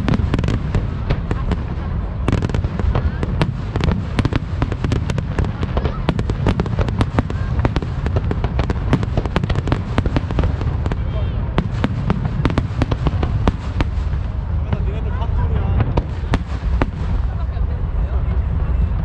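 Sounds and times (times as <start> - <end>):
continuous low rumble: 0.0 - 19.0
fireworks bursting: 0.0 - 19.0.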